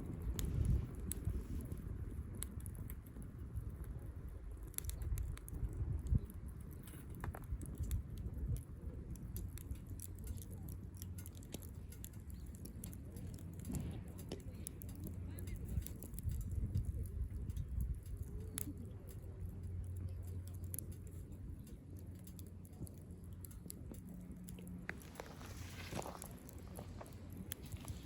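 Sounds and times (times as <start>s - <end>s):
sharp pops and ticks: 0.0s - 28.0s
wood fire crackling: 0.0s - 28.0s.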